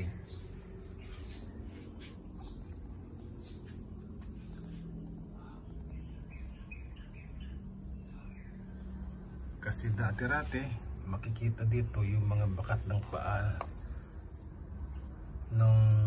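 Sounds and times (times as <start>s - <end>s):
insect chirps: 0.0s - 16.0s
insects droning: 0.0s - 16.0s
low steady hum: 0.0s - 16.0s.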